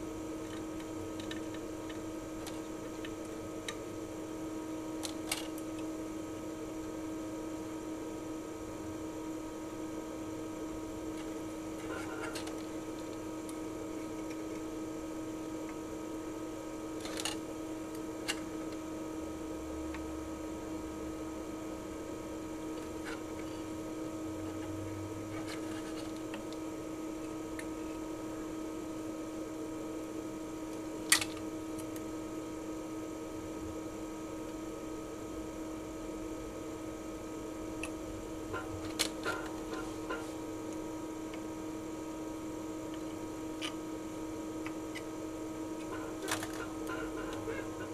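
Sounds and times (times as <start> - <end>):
electrical hum: 0.0 - 47.9.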